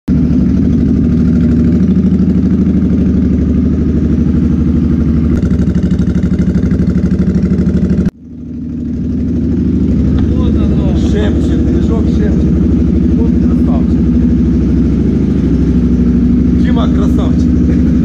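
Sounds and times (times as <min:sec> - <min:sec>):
motorcycle engine idling: 0:00.1 - 0:18.0.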